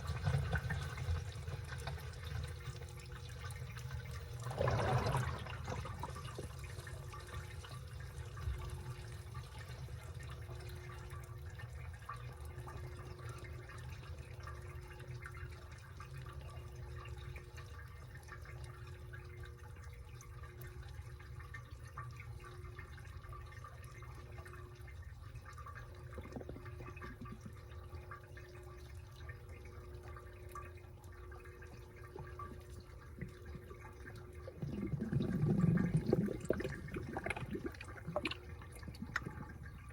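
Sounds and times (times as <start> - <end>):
washing machine hum: 0.0 - 39.9
water sloshing and dripping: 0.0 - 39.9.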